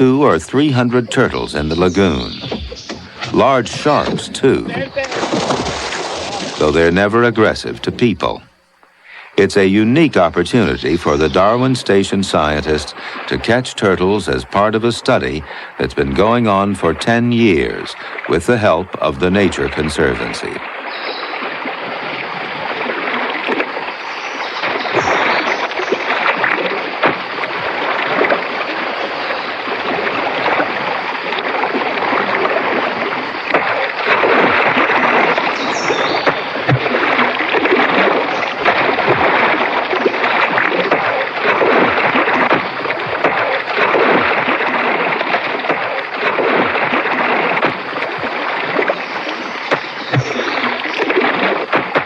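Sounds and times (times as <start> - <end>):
water splashing and sloshing: 0.0 - 52.0.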